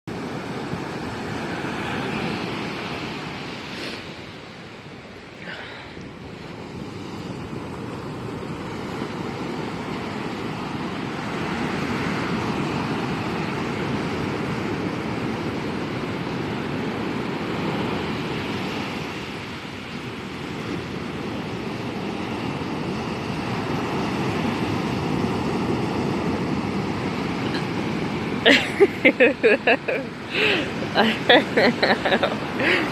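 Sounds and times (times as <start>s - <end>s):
waves washing in and out: 0.1s - 32.9s.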